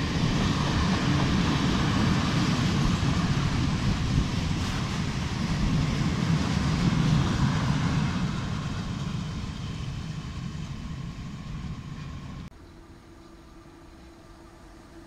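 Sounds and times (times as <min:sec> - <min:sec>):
train wheels rumbling on track: 0:00.0 - 0:12.6.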